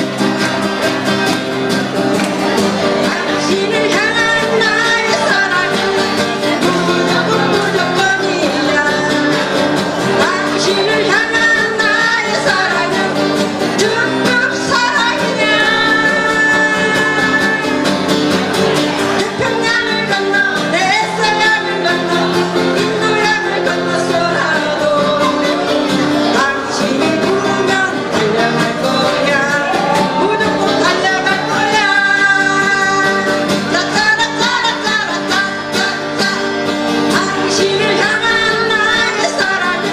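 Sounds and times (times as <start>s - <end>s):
acoustic guitars strummed: 0.0s - 39.9s
people singing into microphones: 2.4s - 18.0s, 19.0s - 39.9s.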